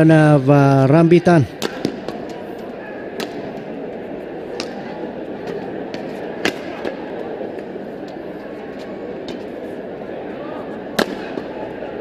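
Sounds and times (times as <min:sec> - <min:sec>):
sports hall background noise: 0:00.0 - 0:12.0.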